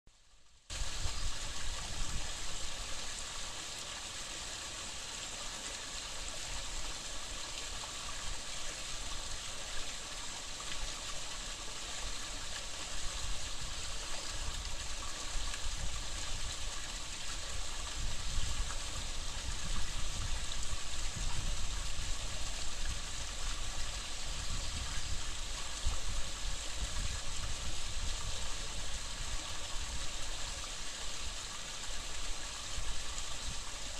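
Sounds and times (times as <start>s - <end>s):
stream water flowing: 0.3s - 33.9s.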